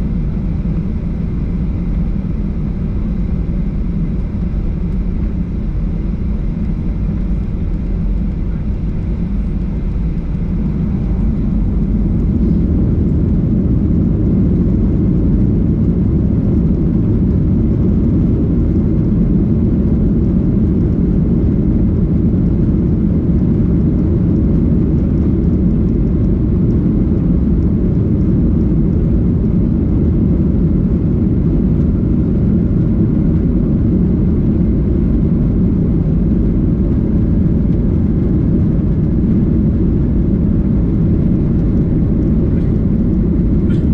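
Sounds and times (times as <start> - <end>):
jet engine cabin rumble: 0.0 - 43.9.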